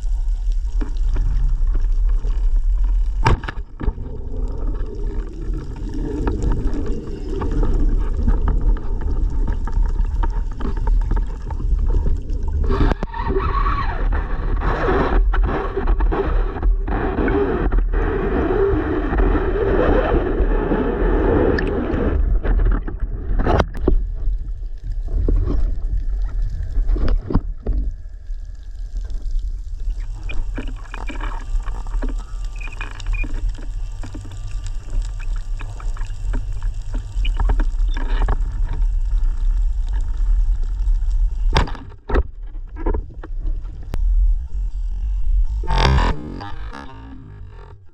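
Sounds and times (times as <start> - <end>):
muffled swishing water: 0.0 - 47.9
underwater low rumble: 0.0 - 47.9.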